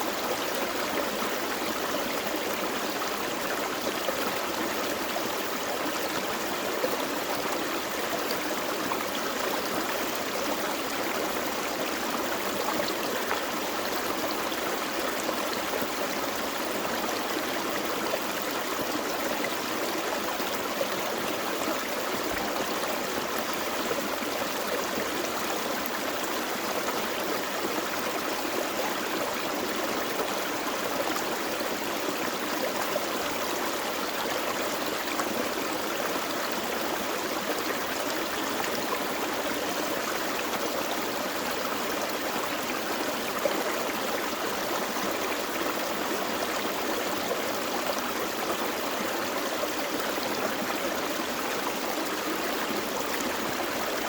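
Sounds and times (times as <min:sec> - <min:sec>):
creek flowing over rocks: 0:00.0 - 0:54.0.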